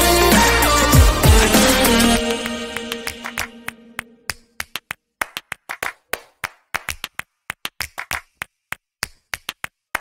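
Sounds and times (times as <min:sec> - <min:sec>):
percussive clap-like music: 0:00.2 - 0:10.0.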